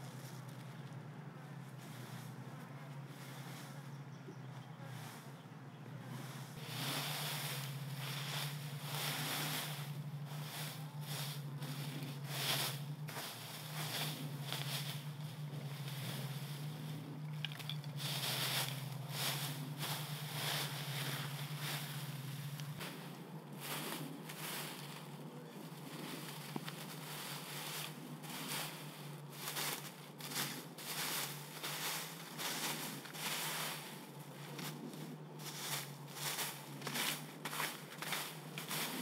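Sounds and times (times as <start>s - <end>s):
dry leaves rustling and crunching: 0.0s - 3.9s, 6.1s - 39.0s
steady low hum: 0.0s - 39.0s.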